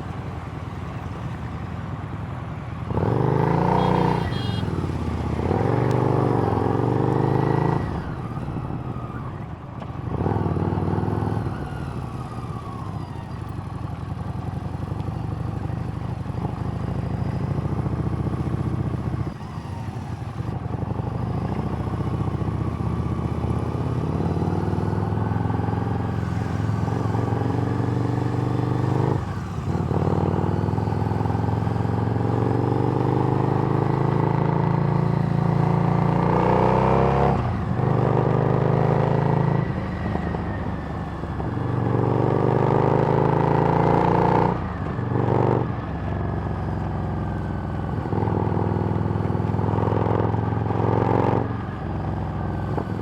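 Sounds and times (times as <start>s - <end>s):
motorcycle engine accelerating: 2.8s - 53.0s.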